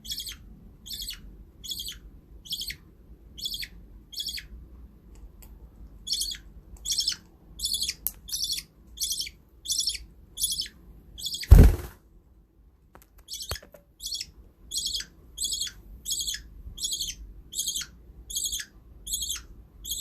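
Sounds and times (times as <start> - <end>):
budgerigar high chirps: 0.0 - 2.8, 3.4 - 4.5, 6.0 - 11.8, 13.3 - 20.0.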